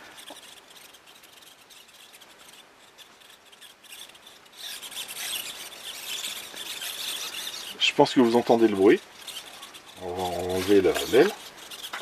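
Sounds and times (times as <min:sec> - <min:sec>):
servos whirring with high buzz: 0:00.0 - 0:12.0.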